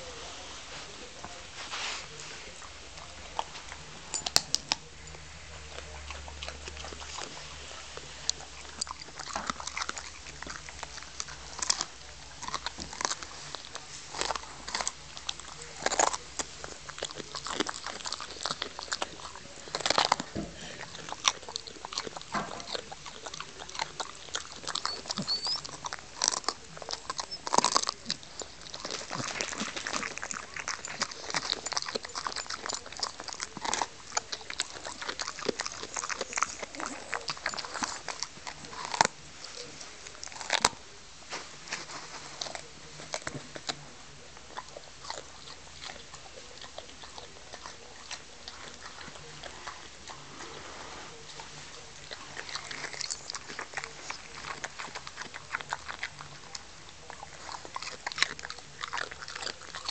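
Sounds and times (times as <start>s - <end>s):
dog chewing crunchy vegetable: 0.0s - 59.9s.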